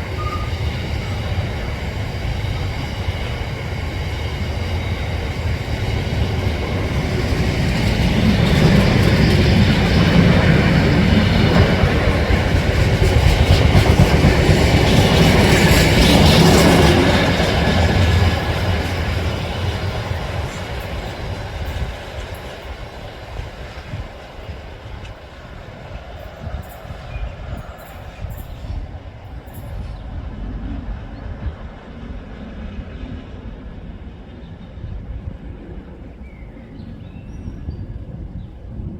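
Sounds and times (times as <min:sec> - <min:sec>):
train passing on rails: 0:00.0 - 0:38.9.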